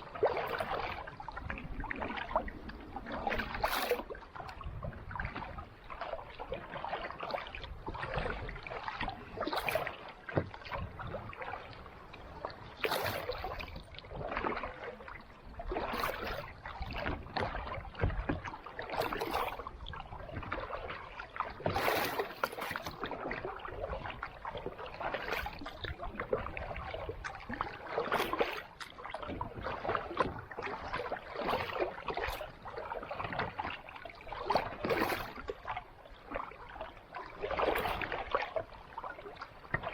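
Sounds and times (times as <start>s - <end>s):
kayak paddle splashing: 0.0s - 39.9s.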